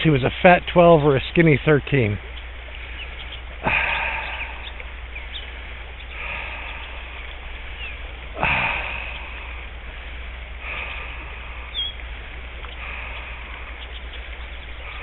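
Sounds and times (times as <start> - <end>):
river water running: 0.0 - 15.0
swishing rushes of water: 0.0 - 15.0.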